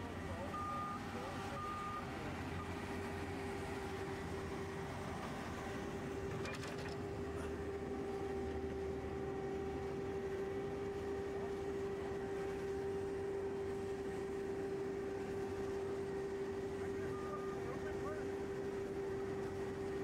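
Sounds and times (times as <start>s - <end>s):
machine hum with whine: 0.0s - 20.0s.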